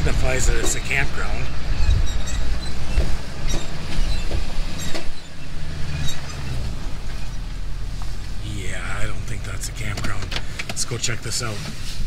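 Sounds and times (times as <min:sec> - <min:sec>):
truck knocking and rattling: 0:00.0 - 0:08.4, 0:09.2 - 0:11.1
truck engine hum: 0:00.0 - 0:12.0.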